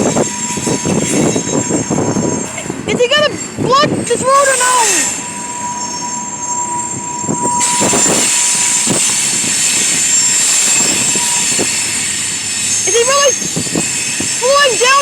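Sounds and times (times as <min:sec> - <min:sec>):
train cars clanking: 0:00.0 - 0:15.0
train wheels squealing: 0:00.0 - 0:15.0.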